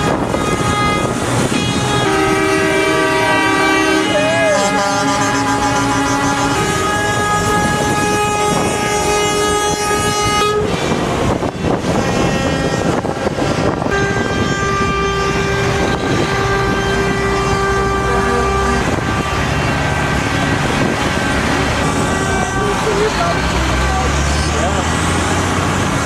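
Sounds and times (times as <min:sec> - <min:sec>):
diesel engine and road noise: 0:00.0 - 0:26.0
truck air horn blasts: 0:00.0 - 0:26.0.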